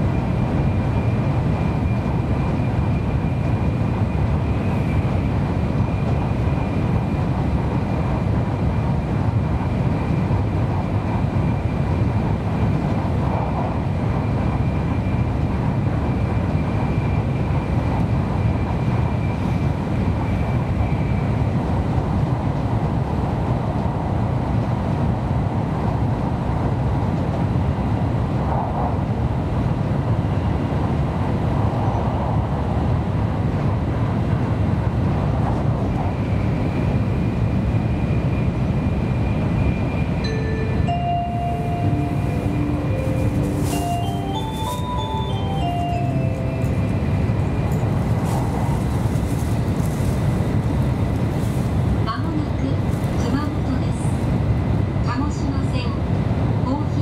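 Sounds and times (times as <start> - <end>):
train wheel and air rumble: 0.0 - 57.0.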